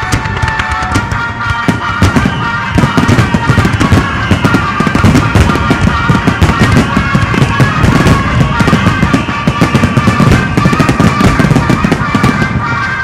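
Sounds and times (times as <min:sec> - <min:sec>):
fireworks bursting in rapid bangs: 0:00.0 - 0:13.0
fireworks show music: 0:00.0 - 0:13.0.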